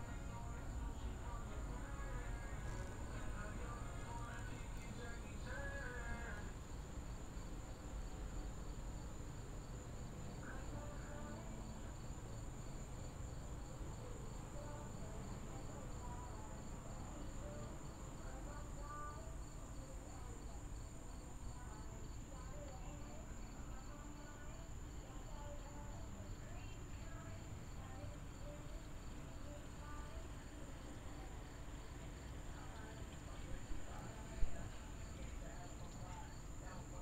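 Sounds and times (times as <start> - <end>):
crickets trilling chorus: 0.0 - 37.0.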